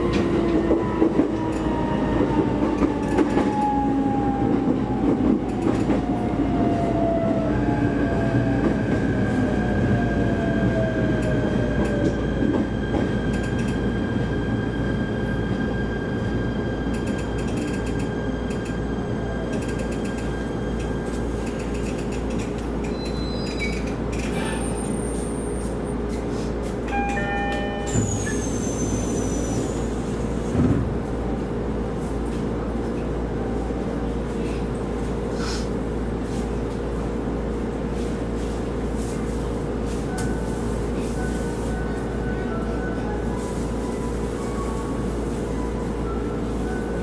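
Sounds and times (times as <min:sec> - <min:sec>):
electric train humming: 0:00.0 - 0:23.0, 0:25.7 - 0:47.0.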